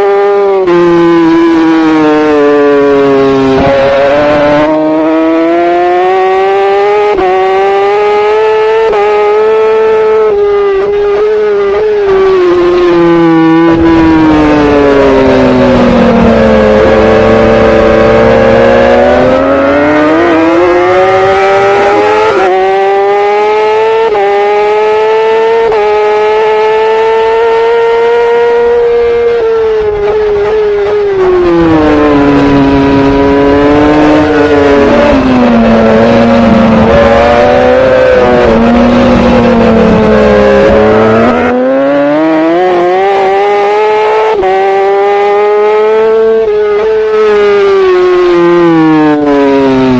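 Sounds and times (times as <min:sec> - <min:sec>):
racing motorbike engine: 0:00.0 - 0:49.9.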